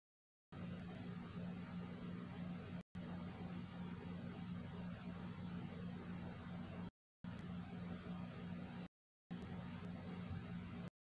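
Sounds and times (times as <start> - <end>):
low hum: 0.5 - 10.9.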